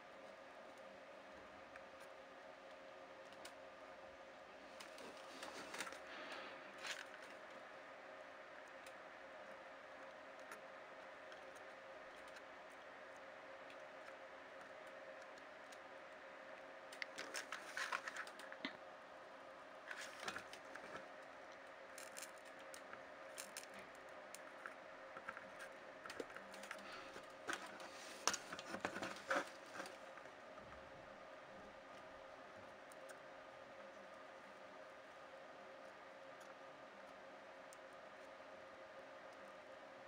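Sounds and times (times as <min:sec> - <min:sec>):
faint electrical hum: 0:00.0 - 0:40.0.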